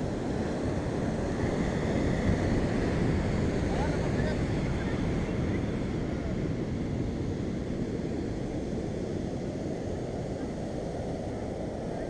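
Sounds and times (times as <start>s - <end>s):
ocean surf: 0.0s - 12.0s
wind rumble on microphone: 0.0s - 12.0s.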